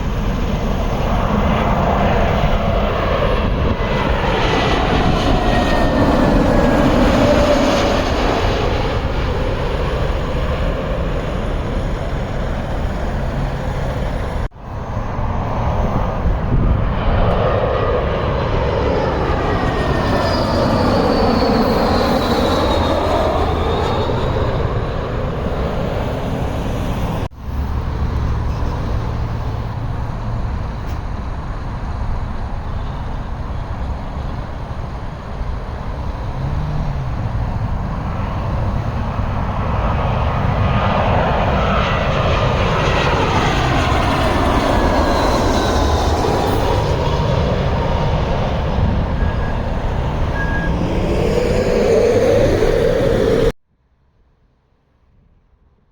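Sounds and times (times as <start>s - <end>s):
high engine whine: 0.0s - 53.6s
jet airliner passing overhead: 0.0s - 53.6s
another plane's engines: 0.0s - 54.2s.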